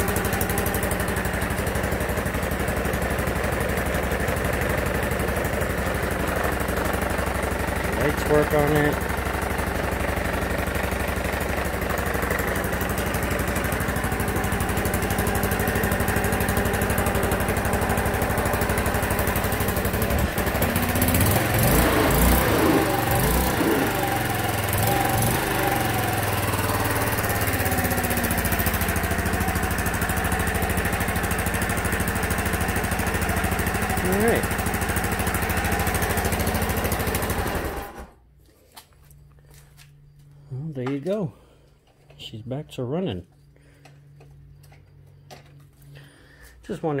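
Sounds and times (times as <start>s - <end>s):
scooter engine idling and revving: 0.0s - 38.4s.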